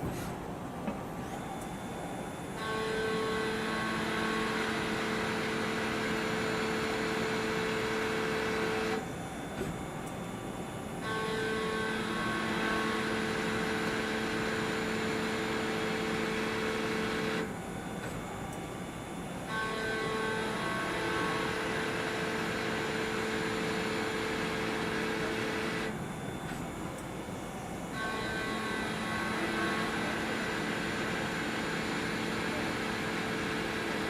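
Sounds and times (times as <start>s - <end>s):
lathe machining whine: 0.0s - 34.0s.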